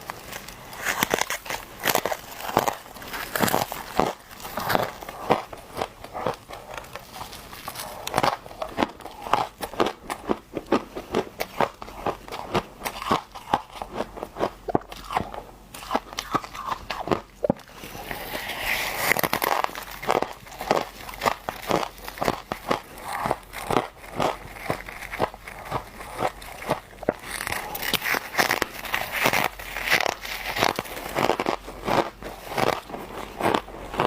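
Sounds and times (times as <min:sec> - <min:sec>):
chewing ice chunks: 0:00.0 - 0:34.0.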